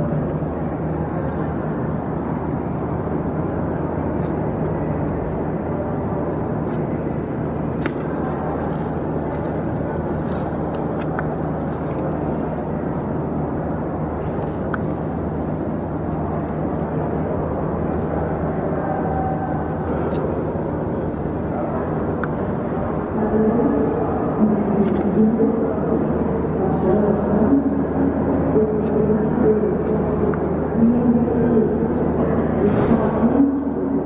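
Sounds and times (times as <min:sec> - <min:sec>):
train station hall rumble: 0:00.0 - 0:34.0.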